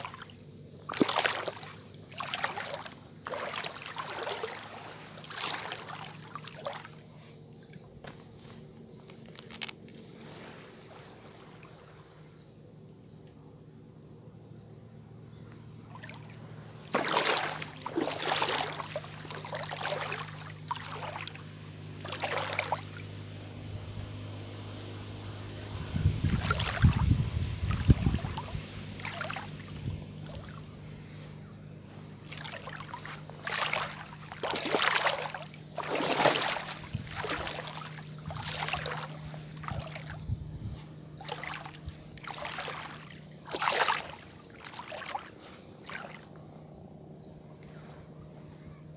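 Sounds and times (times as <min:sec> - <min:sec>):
wading through shallow water: 0:00.0 - 0:13.2, 0:15.0 - 0:48.9
low hum: 0:00.0 - 0:48.9.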